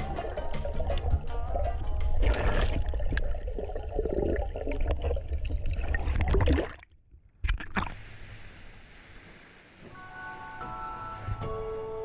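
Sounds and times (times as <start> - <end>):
water sloshing and bubbling underwater: 0.0 - 10.4.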